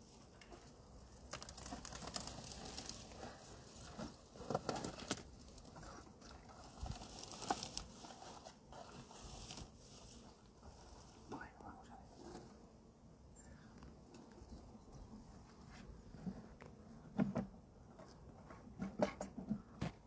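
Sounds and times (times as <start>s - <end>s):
rustling of brush and branches: 0.0s - 17.0s.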